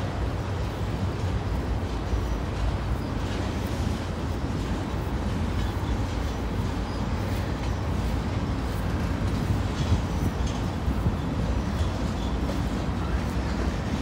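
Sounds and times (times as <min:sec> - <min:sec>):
faint clicks of train wheels: 0:00.0 - 0:14.0
freight train rumbling over bridge: 0:00.0 - 0:14.0.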